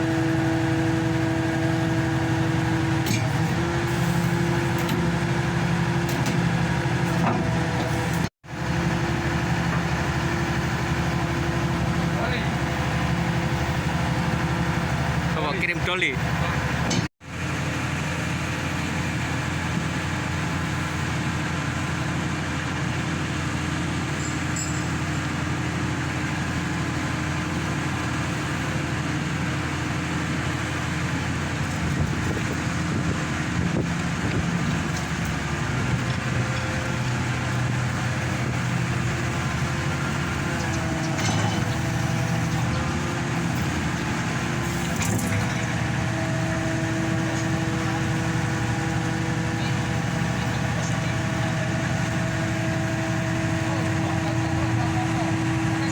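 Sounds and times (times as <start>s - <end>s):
pile driver engine droning: 0.0s - 55.9s.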